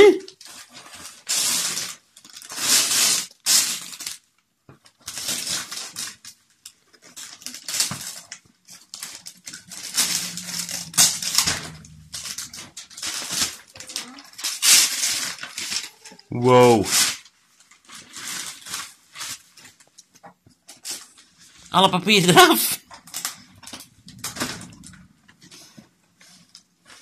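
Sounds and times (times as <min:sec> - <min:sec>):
wrapping paper tearing: 0:00.0 - 0:04.3, 0:04.9 - 0:20.0, 0:20.7 - 0:24.9.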